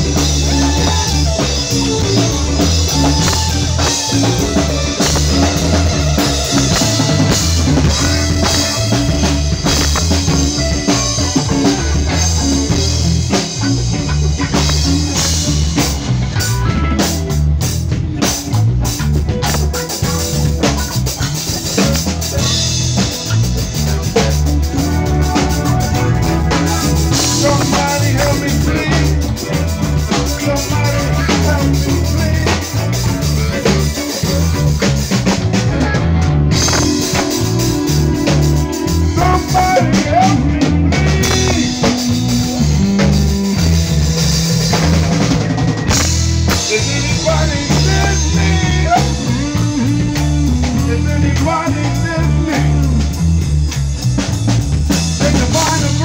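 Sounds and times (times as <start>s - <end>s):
keyboard synthesizer: 0.0s - 53.5s
drum kit beat: 0.0s - 56.0s
live band playing: 0.0s - 56.0s.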